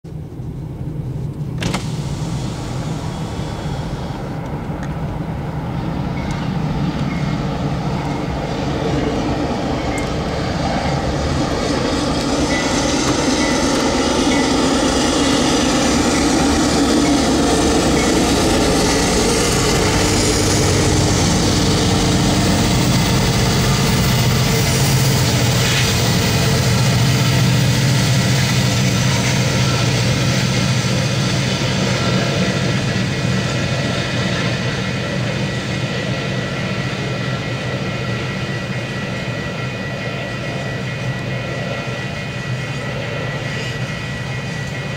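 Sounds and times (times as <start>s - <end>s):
diesel locomotives and train passing: 0.1s - 44.9s.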